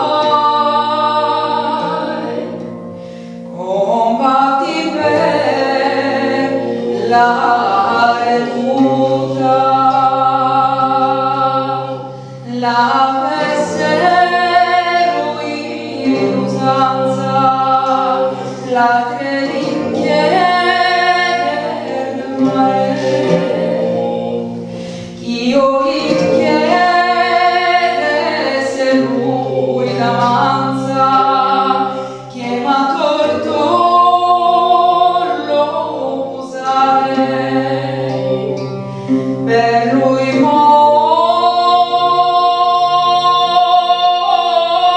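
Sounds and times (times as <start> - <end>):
low accompaniment: 0.0 - 44.9
woman singing folk song: 0.0 - 44.9.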